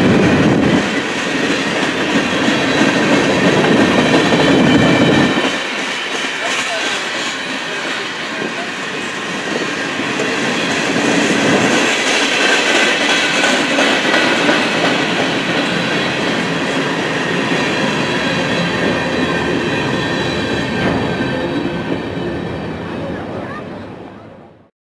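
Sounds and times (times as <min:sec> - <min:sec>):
train wheels rumbling: 0:00.0 - 0:24.1.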